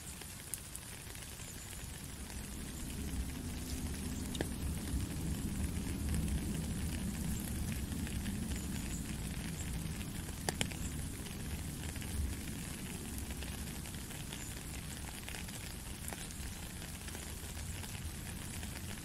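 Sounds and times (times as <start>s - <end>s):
light rain hissing: 0.0s - 19.0s
water drip ticks: 0.0s - 19.0s.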